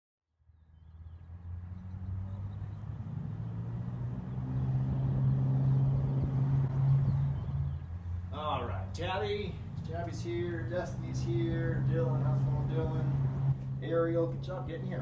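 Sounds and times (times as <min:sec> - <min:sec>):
vehicle engine hum: 0:00.4 - 0:15.0.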